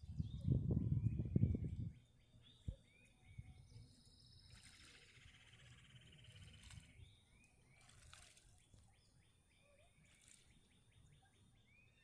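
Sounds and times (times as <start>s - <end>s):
faint bird chirps and trill: 0.0s - 12.0s
low outdoor background noise: 0.0s - 12.0s.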